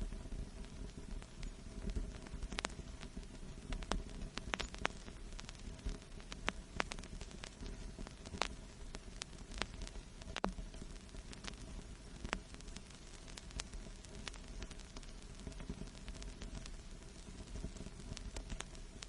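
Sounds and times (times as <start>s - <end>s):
low rumble and hiss: 0.0s - 19.0s
vinyl crackles and pops: 0.0s - 19.0s.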